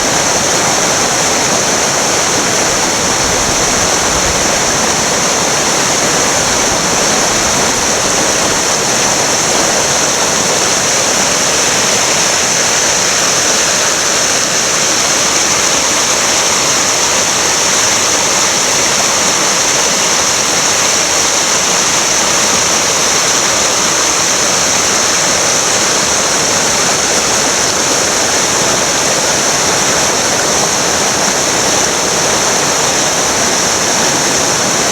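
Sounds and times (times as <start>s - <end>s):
fast water rushing: 0.0s - 34.9s.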